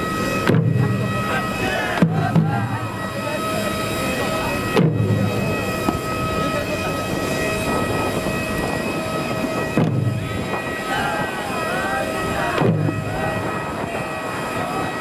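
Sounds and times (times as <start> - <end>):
people's voices: 0.0 - 15.0.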